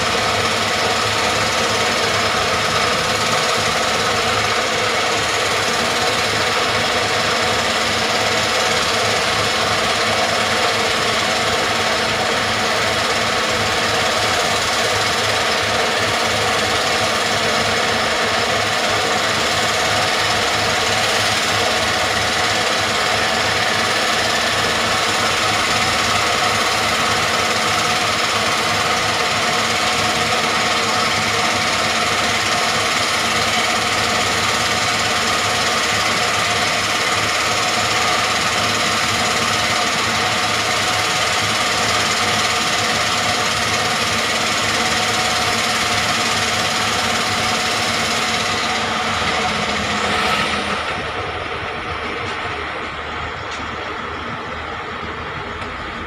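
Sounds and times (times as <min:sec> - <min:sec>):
vibratory pile hammer rattling: 0:00.0 - 0:54.5.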